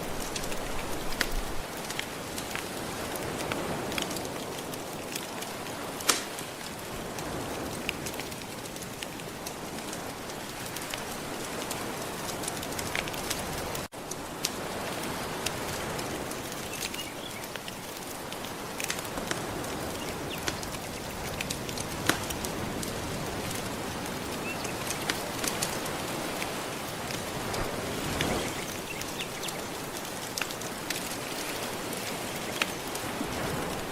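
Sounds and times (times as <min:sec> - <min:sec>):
soft ocean waves: 0:00.0 - 0:33.9
wood fire crackling: 0:00.0 - 0:33.9.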